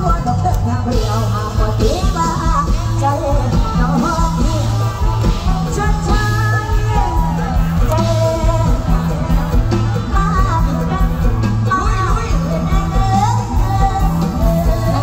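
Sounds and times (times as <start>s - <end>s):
heavy bass and drum beat: 0.0s - 15.0s
person singing: 0.0s - 15.0s.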